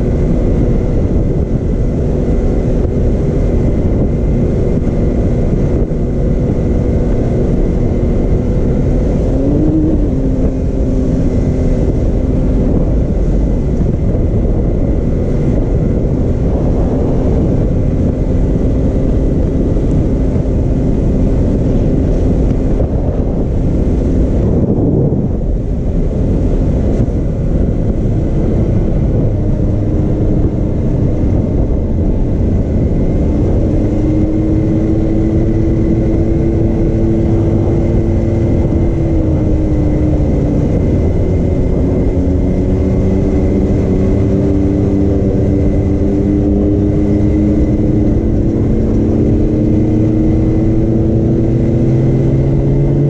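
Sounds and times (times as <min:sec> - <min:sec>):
vehicle engine running: 0:00.0 - 0:53.0
wind and road rumble: 0:00.0 - 0:53.0.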